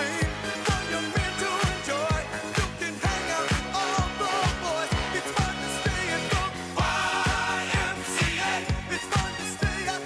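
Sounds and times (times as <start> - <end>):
disco dance music: 0.0 - 10.0.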